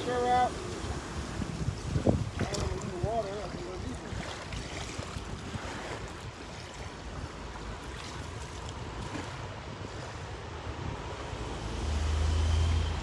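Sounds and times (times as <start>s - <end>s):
water sloshing around wading legs: 0.0s - 10.5s
wind buffeting the microphone: 0.0s - 11.6s.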